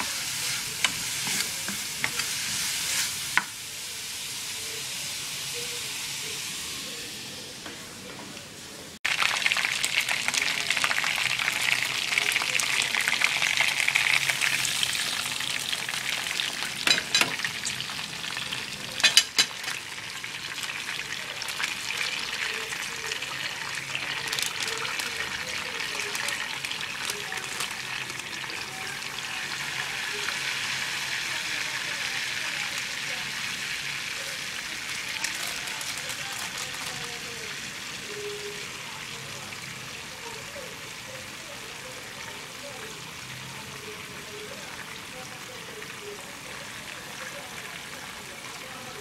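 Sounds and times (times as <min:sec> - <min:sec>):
chicken sizzling in frying pan: 0:00.0 - 0:07.6, 0:09.0 - 0:49.0.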